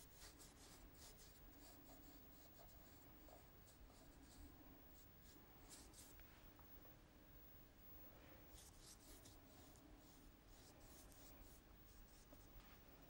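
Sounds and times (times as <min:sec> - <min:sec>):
paintbrush swishing on paper: 0:00.0 - 0:06.5, 0:08.3 - 0:13.0.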